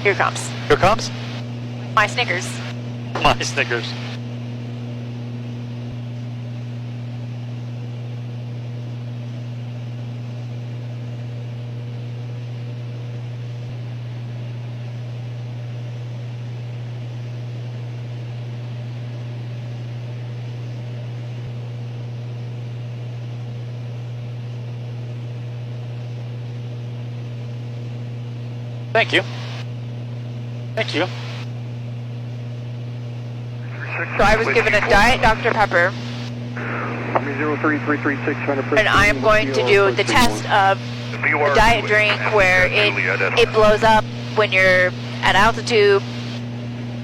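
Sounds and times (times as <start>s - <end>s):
airplane cockpit drone: 0.0s - 47.0s.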